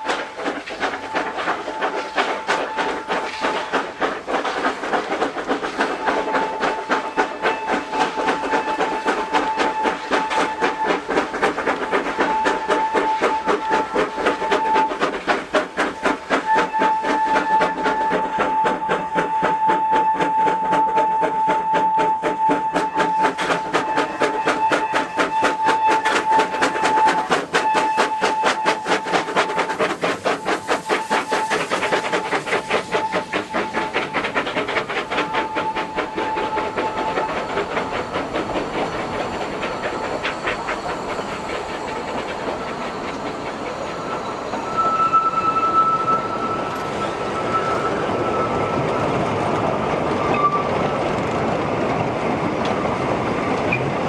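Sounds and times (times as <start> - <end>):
wheel squeal: 0.0 - 52.0
steam locomotive exhaust beats: 0.0 - 54.0
train wagons clattering: 0.0 - 54.0.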